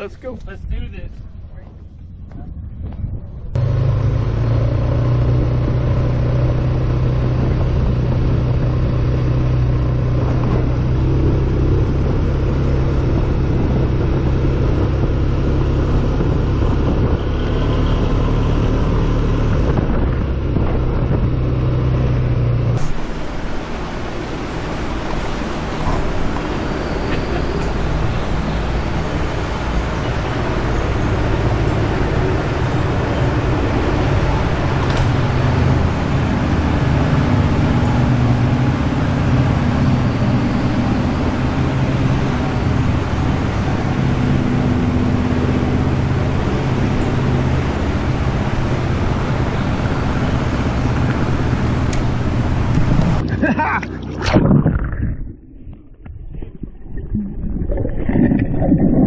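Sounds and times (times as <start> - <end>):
atv engine running: 2.0 - 54.2.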